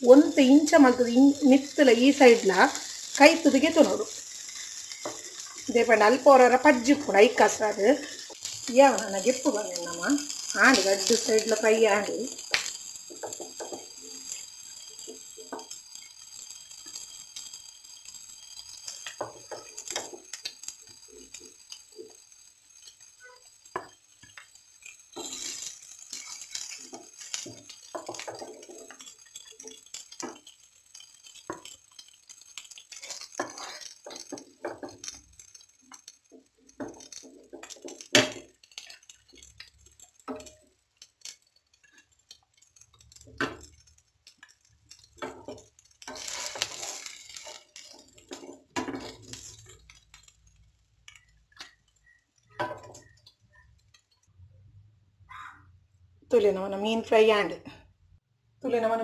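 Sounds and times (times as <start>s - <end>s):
spatula scraping frying pan: 0.0s - 50.4s.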